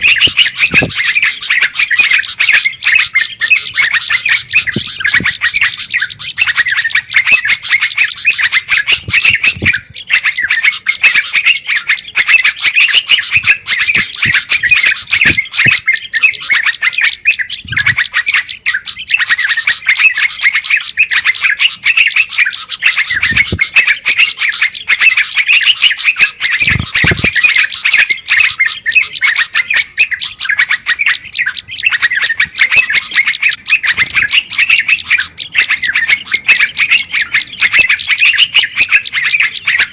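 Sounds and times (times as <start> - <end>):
songbirds chattering and calling: 0.0 - 39.9.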